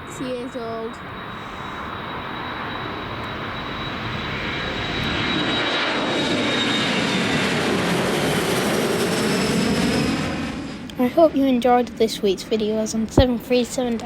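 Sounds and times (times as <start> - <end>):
jet engines at take-off: 0.0 - 14.0.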